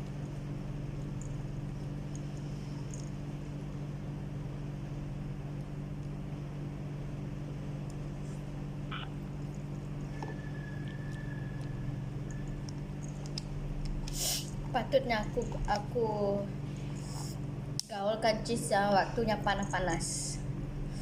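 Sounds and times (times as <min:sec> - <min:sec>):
low multi-tone hum: 0:00.0 - 0:21.0.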